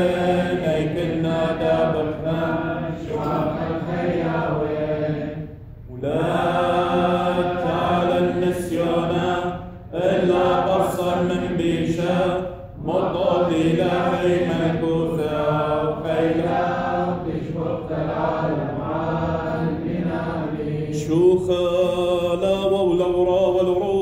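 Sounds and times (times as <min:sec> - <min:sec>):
men chanting: 0:00.0 - 0:24.0.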